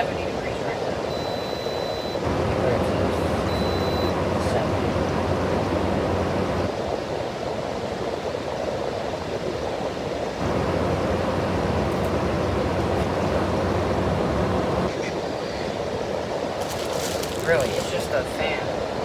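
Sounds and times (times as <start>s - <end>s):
air conditioner fan blowing: 0.0s - 19.0s.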